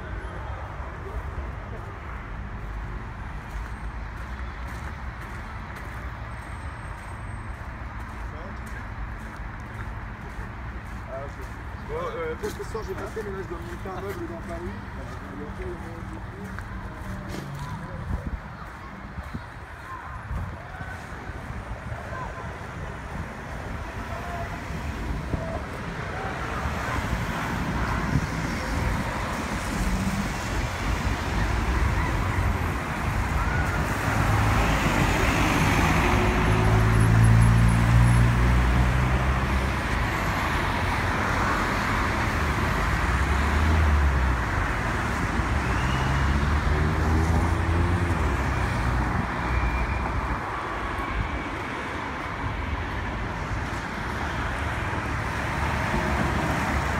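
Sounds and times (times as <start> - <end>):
cars driving past: 0.0 - 56.9.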